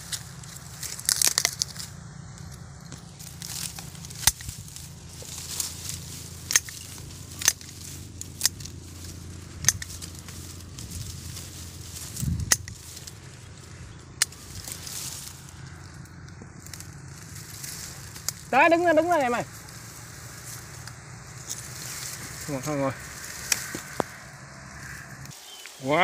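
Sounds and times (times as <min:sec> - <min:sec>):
pruning shears snipping twigs: 0:00.0 - 0:25.8
dry stems rustling: 0:00.0 - 0:26.0.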